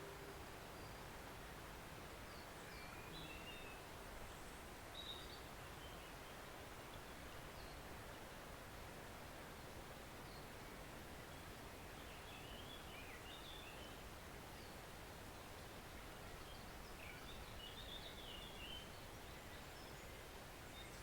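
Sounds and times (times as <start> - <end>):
forest stream flowing: 0.0 - 21.0.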